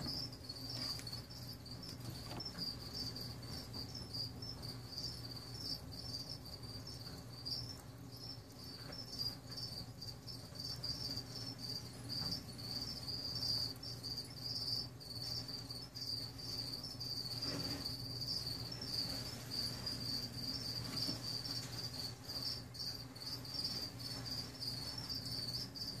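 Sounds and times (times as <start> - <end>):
cricket chirping: 0.0 - 26.0
low steady hum: 0.0 - 26.0.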